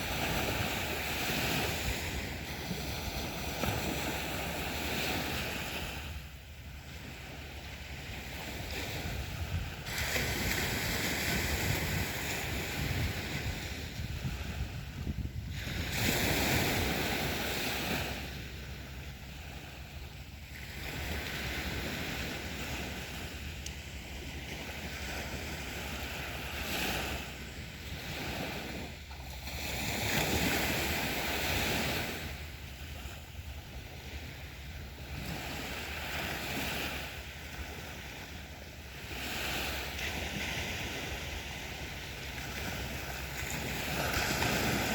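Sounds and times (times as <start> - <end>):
sea waves breaking on beach: 0.0 - 44.9.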